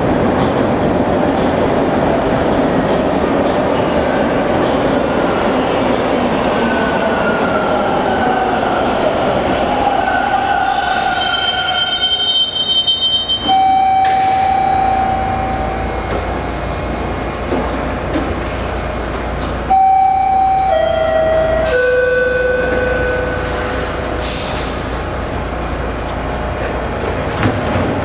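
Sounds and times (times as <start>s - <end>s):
subway train humming: 0.0s - 28.0s.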